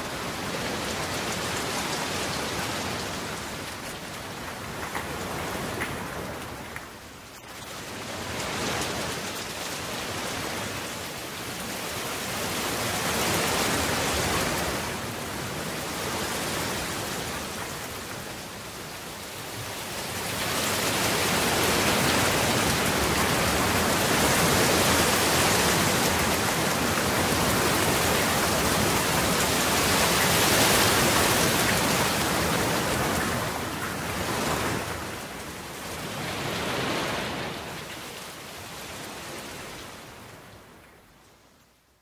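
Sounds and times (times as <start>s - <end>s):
steady rain hiss: 0.0s - 42.0s.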